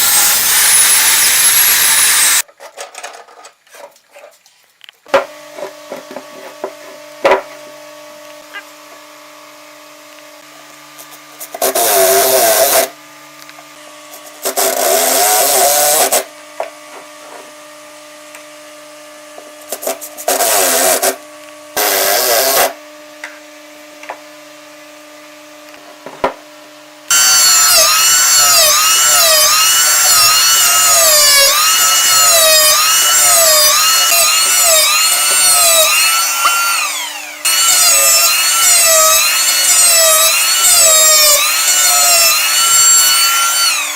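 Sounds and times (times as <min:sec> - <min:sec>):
power tool cutting wood: 0:00.0 - 0:02.5, 0:05.2 - 0:22.9, 0:27.0 - 0:43.9.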